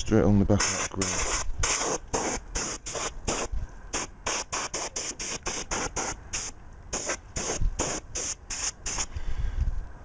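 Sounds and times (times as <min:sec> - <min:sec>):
compressed air hissing bursts: 0:00.6 - 0:09.3.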